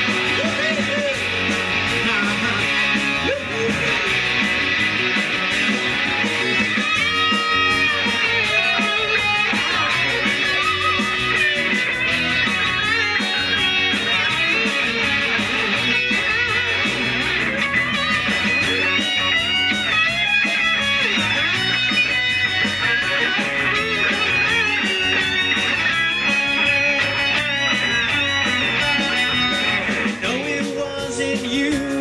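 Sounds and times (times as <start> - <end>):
drums: 0.0 - 32.0
electric guitar lead lines: 0.0 - 32.0.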